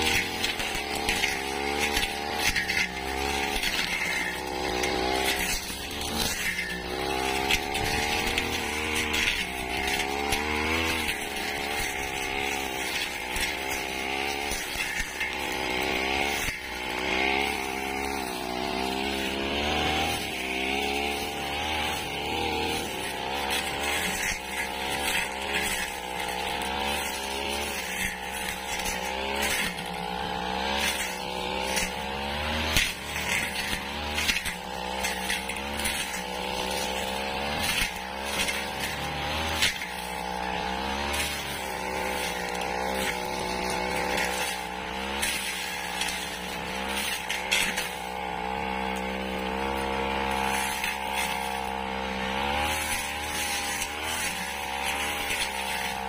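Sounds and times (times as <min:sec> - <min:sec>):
blade cutting dry grass: 0:00.0 - 0:56.0
brush cutter engine running: 0:00.0 - 0:56.0.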